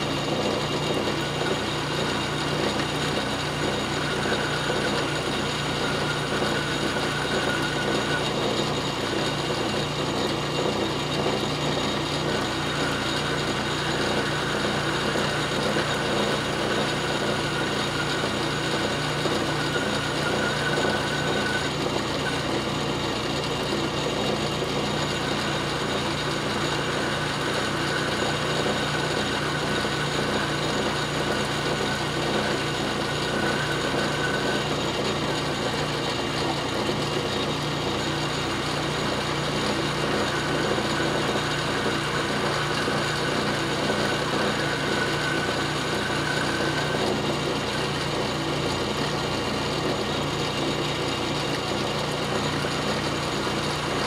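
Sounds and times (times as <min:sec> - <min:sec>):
metal lathe clattering: 0:00.0 - 0:54.0.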